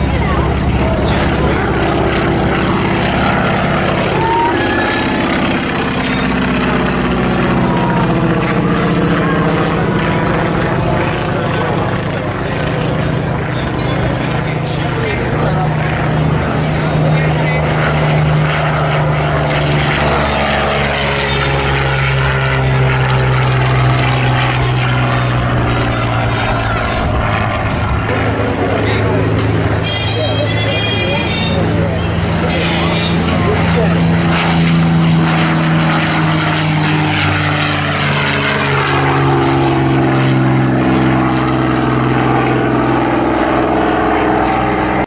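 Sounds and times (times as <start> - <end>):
propeller plane engine drone: 0.0 - 45.0.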